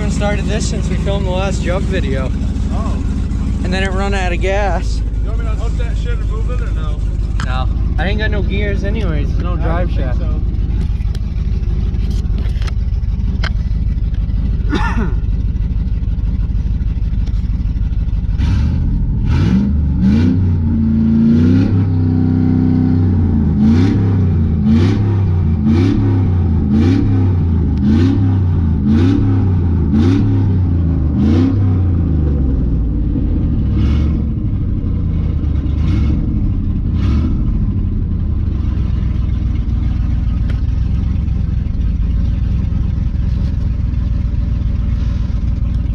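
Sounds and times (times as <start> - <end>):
pickup truck engine revving: 0.0 - 45.9.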